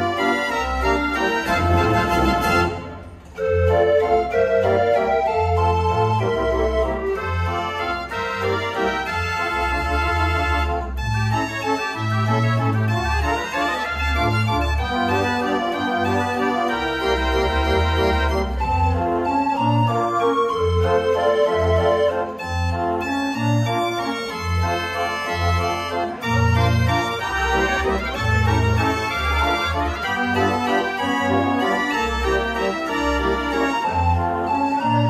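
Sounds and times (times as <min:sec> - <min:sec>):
street organ playing a tune: 0:00.0 - 0:35.0.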